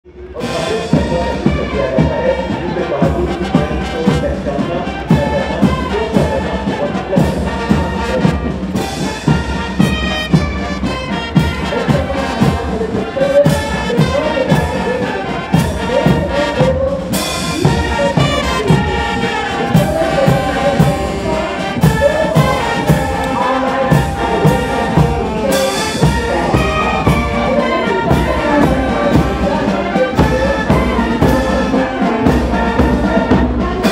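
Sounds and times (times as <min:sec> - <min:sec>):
brass band playing a march: 0:00.1 - 0:33.9.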